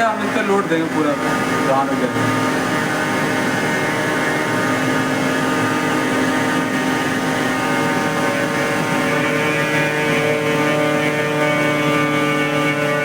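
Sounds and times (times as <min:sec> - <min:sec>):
hydraulic pump whining: 0:00.0 - 0:13.0.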